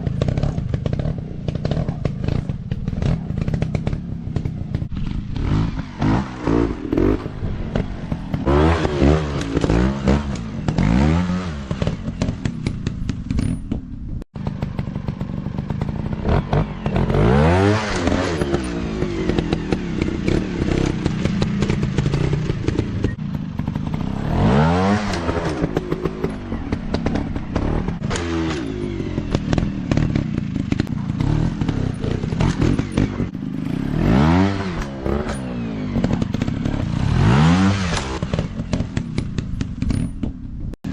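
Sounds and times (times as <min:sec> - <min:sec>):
dirt bike engine revving: 0:00.0 - 0:13.6, 0:14.4 - 0:40.2.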